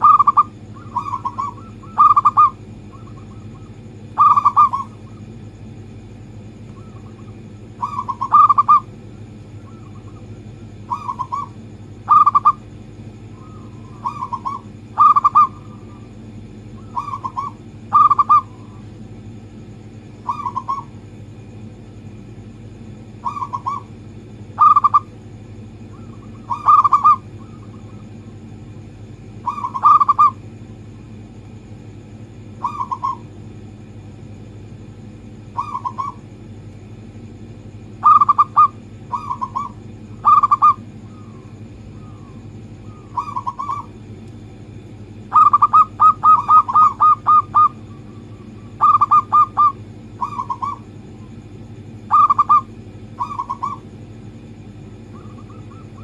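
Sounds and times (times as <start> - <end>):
doves cooing: 0.0 - 19.4, 20.0 - 21.5, 22.1 - 30.6, 32.4 - 33.9, 34.9 - 36.5, 37.7 - 56.0
steady low hum: 0.0 - 56.0.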